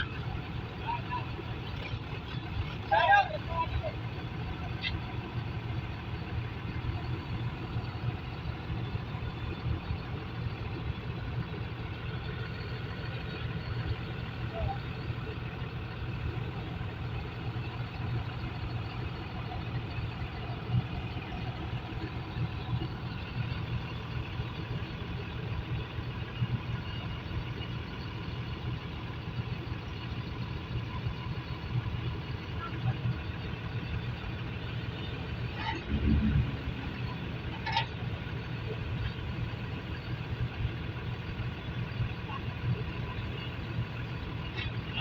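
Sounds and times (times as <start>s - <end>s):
heavy vehicle engine running: 0.0s - 45.0s.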